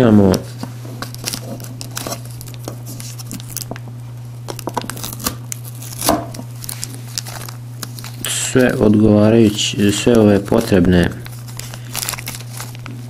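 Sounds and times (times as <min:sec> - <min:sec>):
packaging crinkling and rustling: 0:00.2 - 0:03.8, 0:04.5 - 0:13.0.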